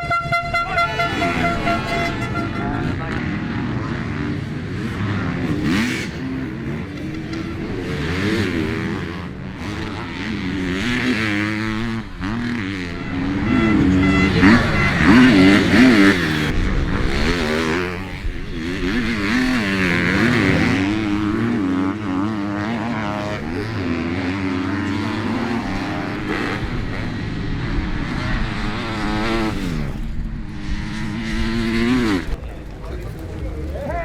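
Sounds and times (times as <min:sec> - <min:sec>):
motocross bikes revving: 0:00.0 - 0:34.0.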